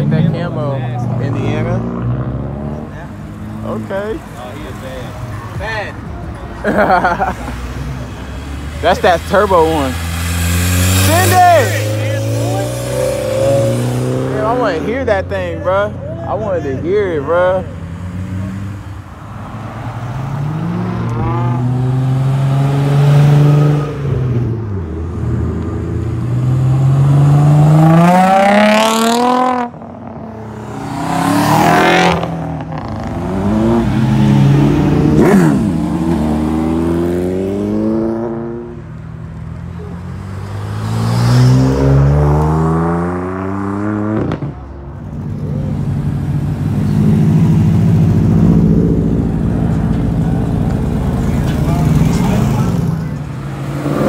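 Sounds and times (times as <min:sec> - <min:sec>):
cars accelerating hard: 0:00.0 - 0:05.8, 0:06.6 - 0:54.0.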